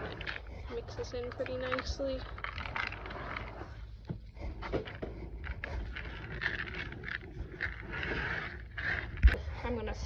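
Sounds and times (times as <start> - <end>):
hand stirring feed pellets: 0.0 - 9.4.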